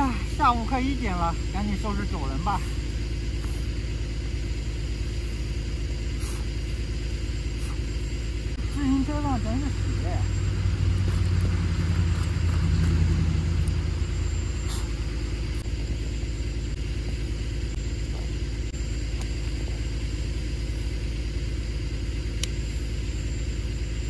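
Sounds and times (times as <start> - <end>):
low vehicle rumble: 0.0 - 24.0.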